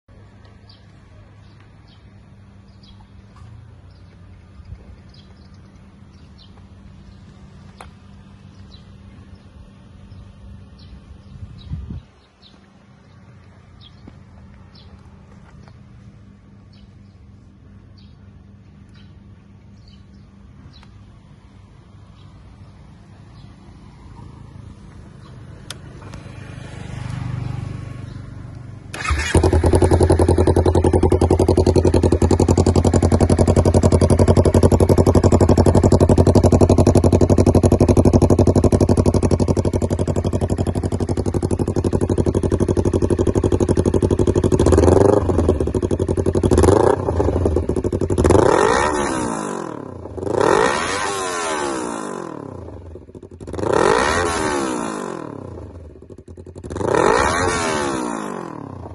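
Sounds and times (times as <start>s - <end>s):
motorcycle engine idling and revving: 0.1s - 58.9s.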